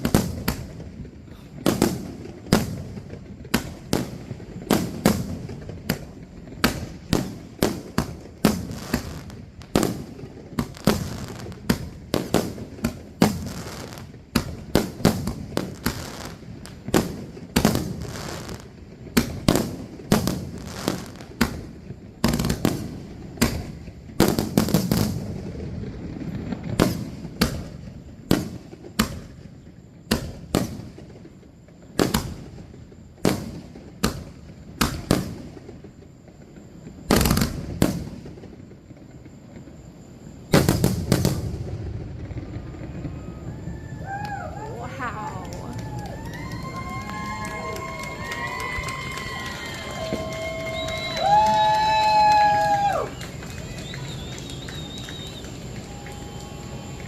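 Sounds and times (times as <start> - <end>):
firework shells bursting: 0.0 - 57.0.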